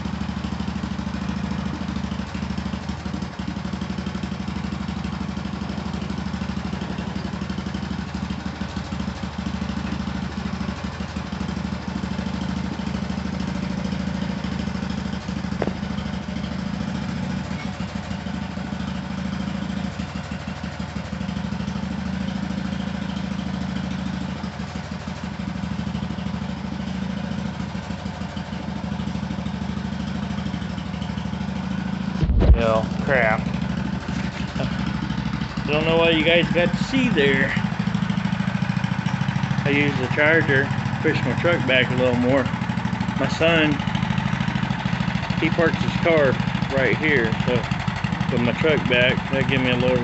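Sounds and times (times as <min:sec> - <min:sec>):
small engine idling: 0:00.0 - 0:50.0.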